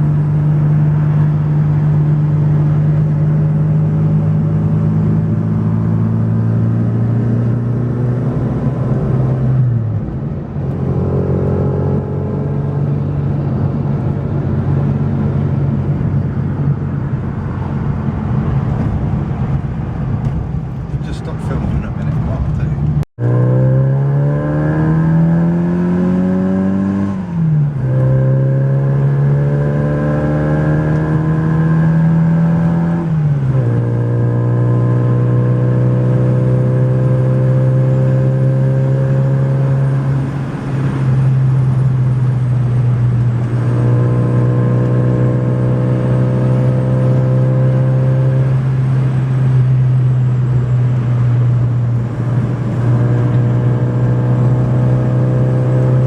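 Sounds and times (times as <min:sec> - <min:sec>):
car engine pulling through gears: 0:00.0 - 0:56.0.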